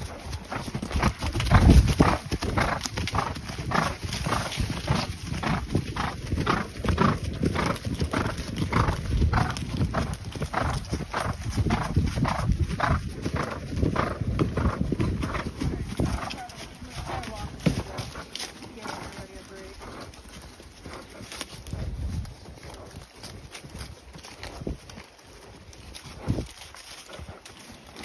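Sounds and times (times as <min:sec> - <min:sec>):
horse hooves clip-clopping on trail: 0:00.0 - 0:28.0.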